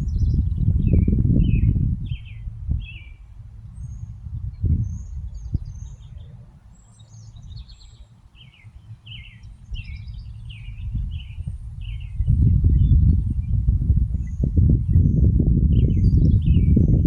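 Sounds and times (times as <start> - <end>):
bird singing warbled notes: 0.0 - 17.0.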